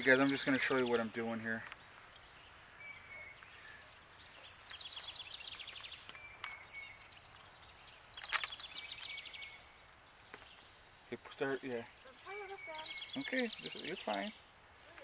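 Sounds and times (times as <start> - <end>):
songbird singing trills: 0.0 - 15.0.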